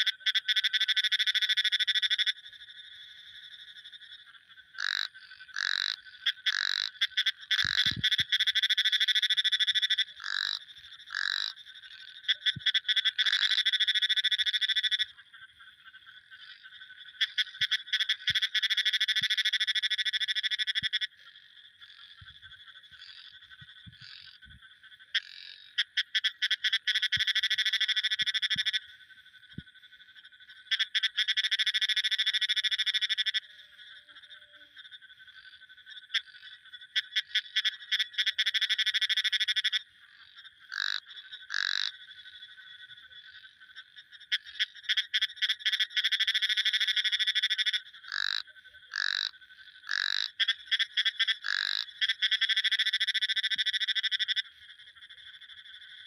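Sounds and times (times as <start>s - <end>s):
frogs trilling: 0.0s - 56.0s
single frog calls: 0.0s - 56.0s.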